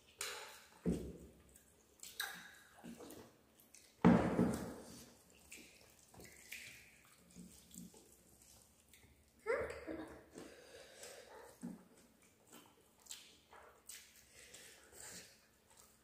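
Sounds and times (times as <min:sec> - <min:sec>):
eating from steel plates: 0:00.0 - 0:09.4, 0:10.1 - 0:16.0
child drinking water: 0:00.0 - 0:16.0.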